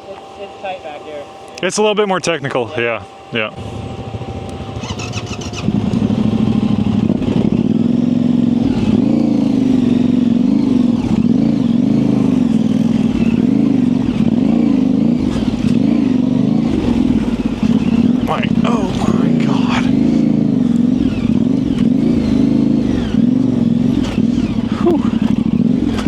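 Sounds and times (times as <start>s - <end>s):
motorcycle engine revving: 3.2s - 26.0s.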